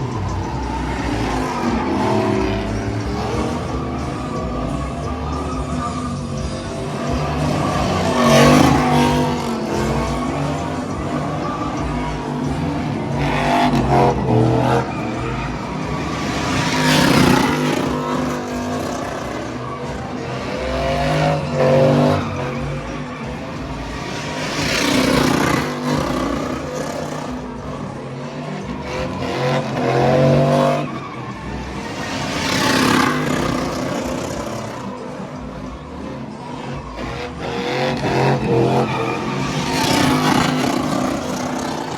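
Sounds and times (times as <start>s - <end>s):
tire squeal: 0.0s - 41.9s
truck engines revving hard: 0.0s - 41.9s.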